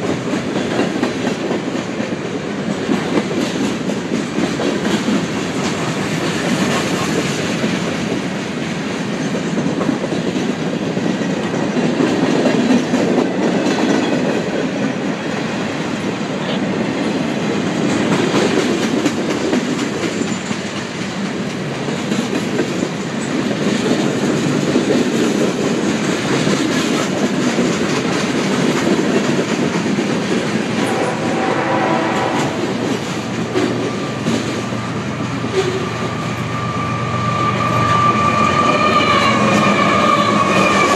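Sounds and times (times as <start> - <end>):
clickety-clack over rail joints: 0.0 - 36.4, 37.7 - 40.9
train wheels rumbling on rail: 0.0 - 40.9.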